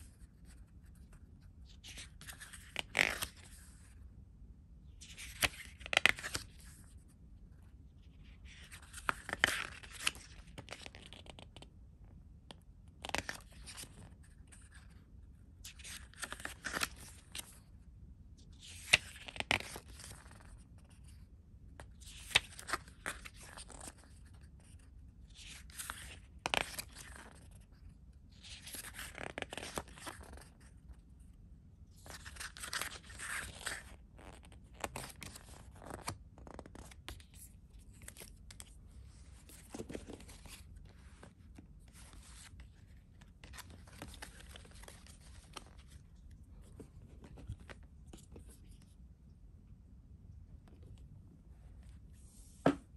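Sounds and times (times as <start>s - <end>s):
booklet pages being turned: 0.0s - 3.9s, 5.0s - 7.0s, 8.0s - 11.7s, 13.0s - 15.0s, 15.6s - 17.7s, 18.4s - 21.2s, 21.8s - 30.8s, 32.0s - 49.0s.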